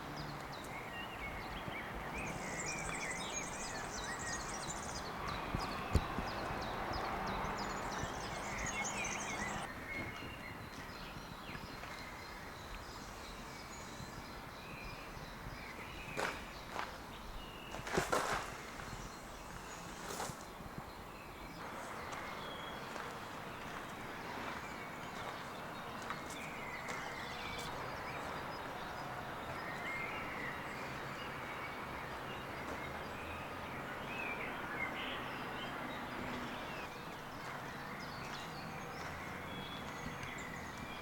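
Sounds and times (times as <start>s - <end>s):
outdoor background noise: 0.0s - 41.0s.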